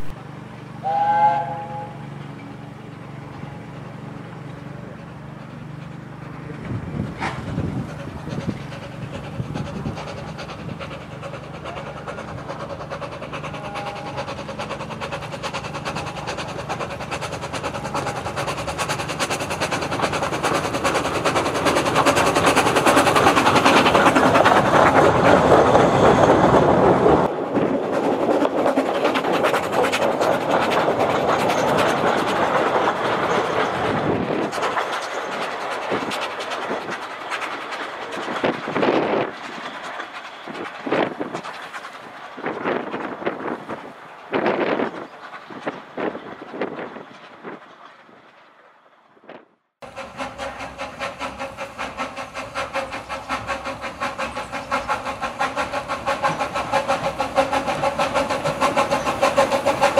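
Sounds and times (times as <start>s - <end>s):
steam locomotive passing: 0.0s - 59.9s.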